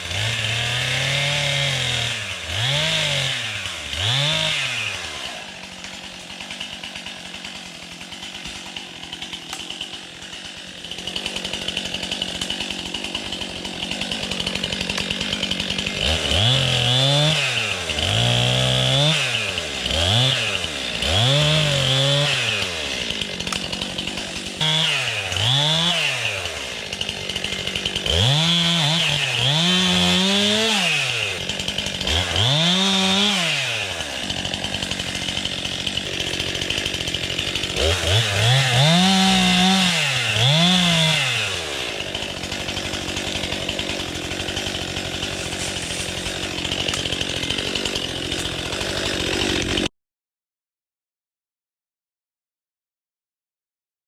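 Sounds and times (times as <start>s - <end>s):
chainsaw engine revving: 0.0s - 49.9s.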